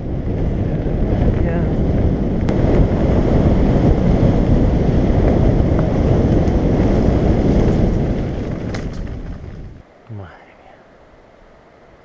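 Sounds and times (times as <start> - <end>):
bike tyres rumbling on gravel: 0.0 - 9.9
wind rushing over microphone: 0.0 - 10.5.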